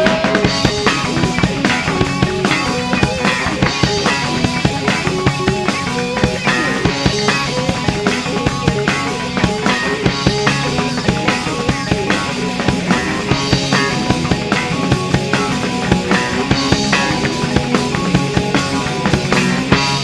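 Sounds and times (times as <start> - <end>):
bass guitar: 0.0 - 20.0
drum kit beating: 0.0 - 20.0
electric guitar: 0.0 - 20.0
keyboard: 0.0 - 20.0.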